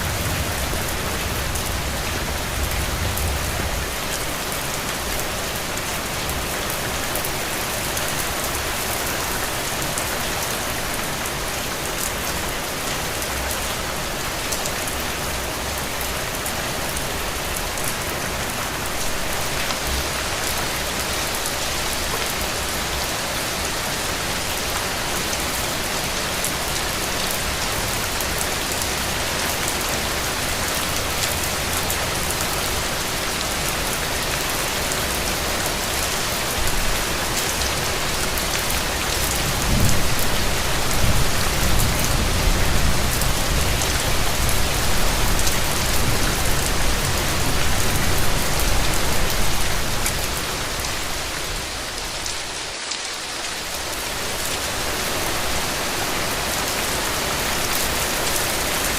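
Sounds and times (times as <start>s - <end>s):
rain on hard surfaces: 0.0s - 58.9s.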